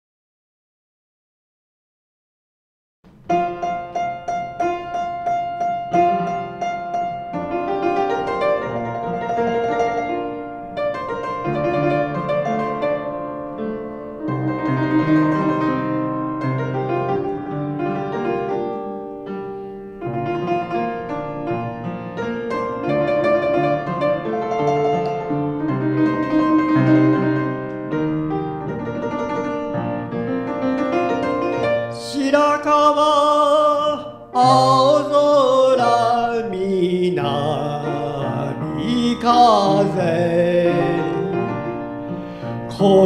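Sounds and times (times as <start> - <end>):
upright piano playing: 3.1 - 43.0.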